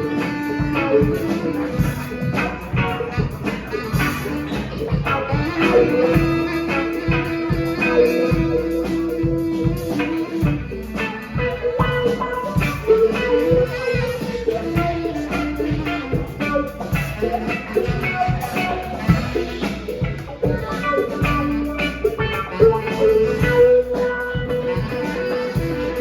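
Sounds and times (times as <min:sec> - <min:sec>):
drum kit beat: 0:00.0 - 0:26.0
held melody notes: 0:00.0 - 0:26.0.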